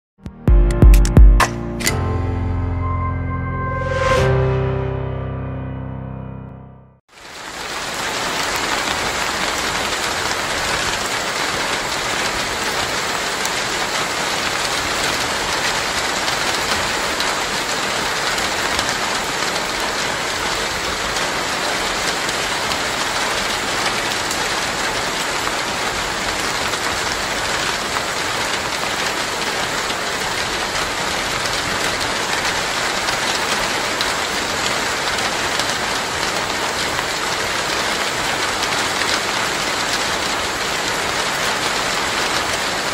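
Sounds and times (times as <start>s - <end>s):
heavy rain falling: 7.1s - 42.9s.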